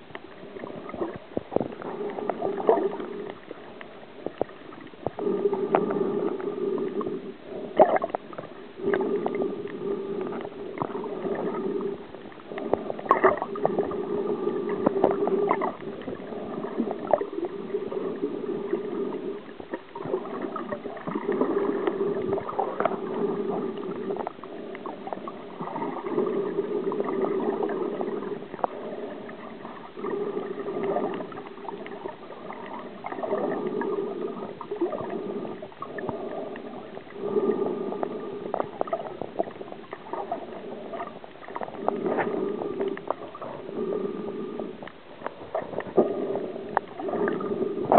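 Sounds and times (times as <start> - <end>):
steady hum: 0.0 - 47.9
underwater gurgling and sloshing: 0.0 - 47.9.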